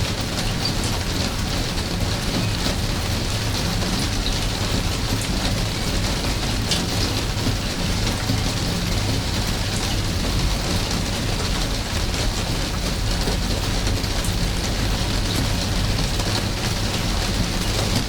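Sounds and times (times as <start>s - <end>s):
heavy raindrops splashing: 0.0s - 18.0s
steady rain falling: 0.0s - 18.0s.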